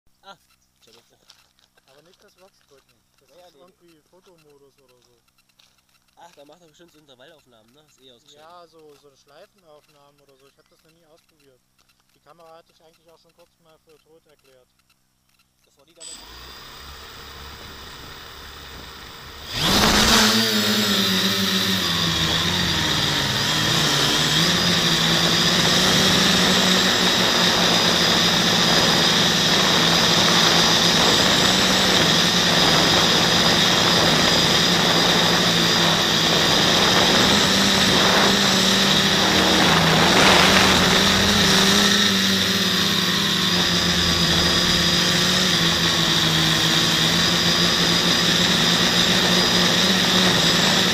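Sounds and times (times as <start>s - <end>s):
quadcopter motors buzzing: 0.5s - 50.9s.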